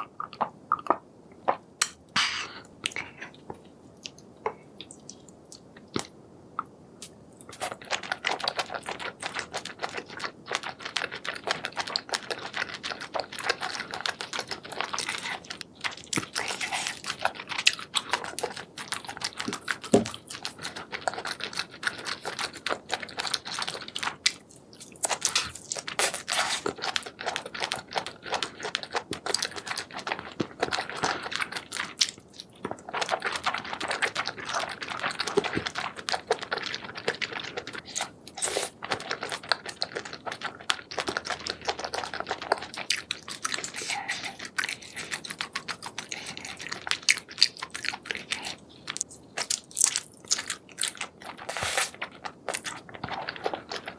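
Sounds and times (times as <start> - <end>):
chewing and biting food: 7.4 - 53.9.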